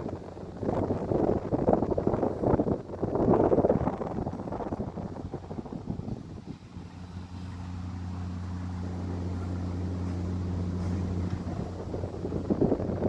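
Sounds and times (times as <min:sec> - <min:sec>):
low engine hum: 0:00.0 - 0:13.0
wind buffeting microphone: 0:00.0 - 0:13.0.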